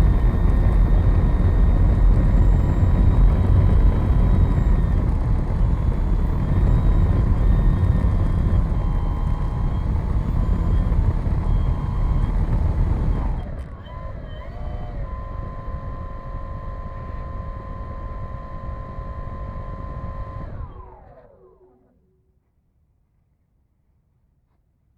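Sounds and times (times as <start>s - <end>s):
model airplane motor whine: 0.0s - 21.9s.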